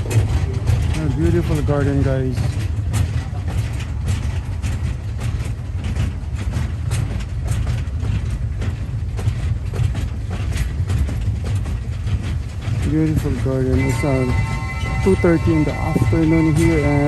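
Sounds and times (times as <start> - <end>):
train rumbling: 0.0 - 17.0
wheels and carriage clacking: 0.0 - 17.0.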